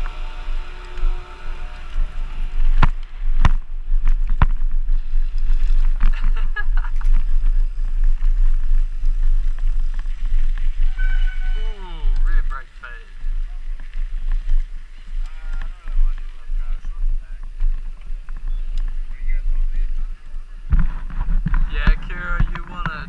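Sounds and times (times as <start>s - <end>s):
bike tyres on gravel: 0.0s - 23.0s
wind buffeting microphone: 0.0s - 23.0s.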